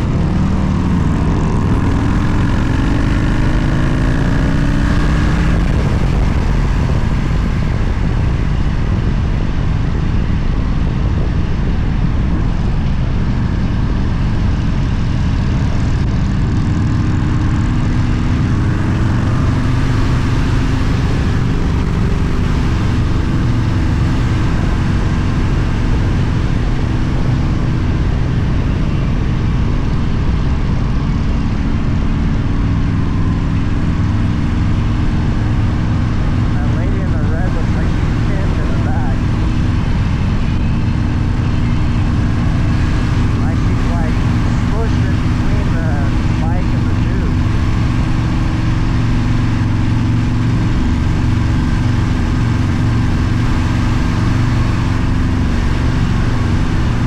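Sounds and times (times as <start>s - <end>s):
constant rushing noise: 0.0s - 57.0s
motorcycle engine running: 0.0s - 57.0s.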